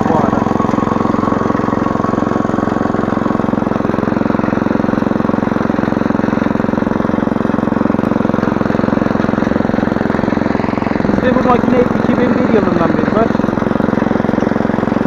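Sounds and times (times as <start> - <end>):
tiller petrol engine running: 0.0 - 15.0.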